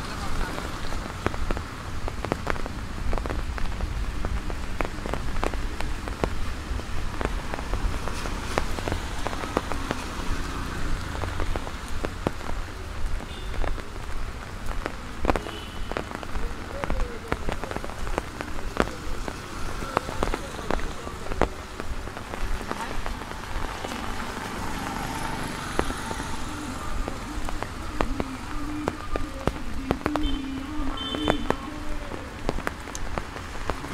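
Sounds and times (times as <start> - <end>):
heavy rain on road and trees: 0.0 - 33.9
raindrops ticking close by: 0.0 - 33.9.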